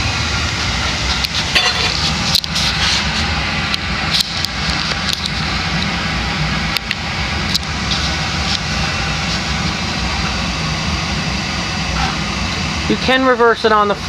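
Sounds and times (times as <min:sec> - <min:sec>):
ceiling fan air rush: 0:00.0 - 0:14.0
low motor hum: 0:00.0 - 0:14.0.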